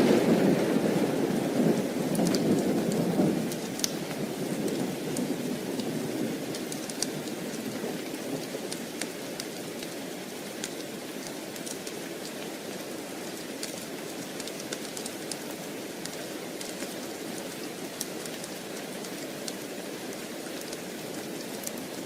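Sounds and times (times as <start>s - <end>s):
wood fire crackling: 0.0s - 12.6s, 13.2s - 22.0s
rain hissing: 0.0s - 22.0s.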